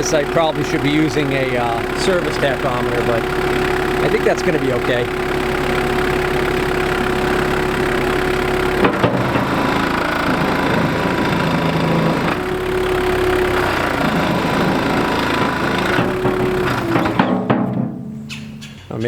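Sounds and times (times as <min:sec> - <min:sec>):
backhoe diesel engine idling: 0:00.0 - 0:19.0.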